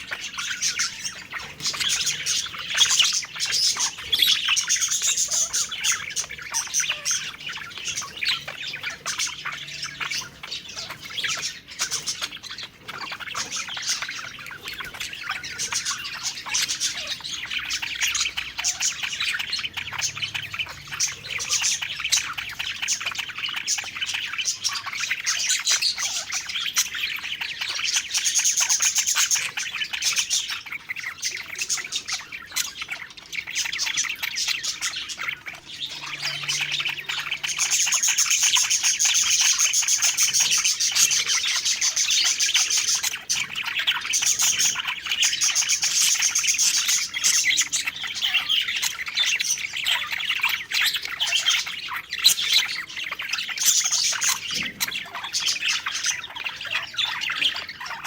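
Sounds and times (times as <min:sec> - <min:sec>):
budgerigars chirping and warbling: 0:00.0 - 0:58.0.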